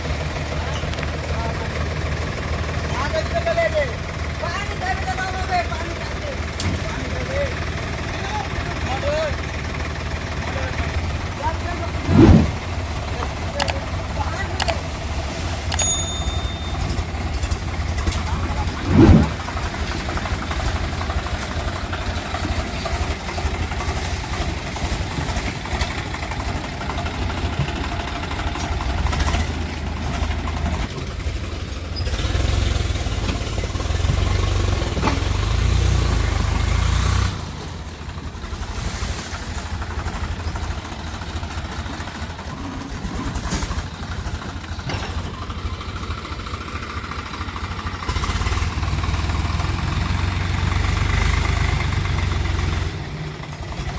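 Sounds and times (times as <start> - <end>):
diesel machinery engines rumbling: 0.0 - 53.9.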